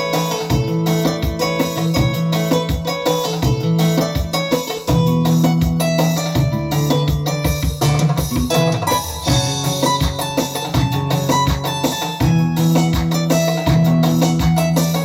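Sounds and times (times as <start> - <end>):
drum hits: 0.0 - 15.0
guitar: 0.0 - 15.0
steady bass line: 0.0 - 15.0
sustained keyboard chords: 0.0 - 15.0.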